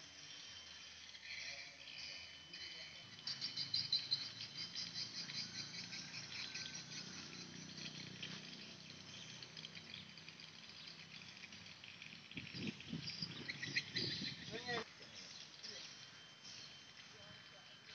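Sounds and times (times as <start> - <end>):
insects chirring: 0.0 - 17.9.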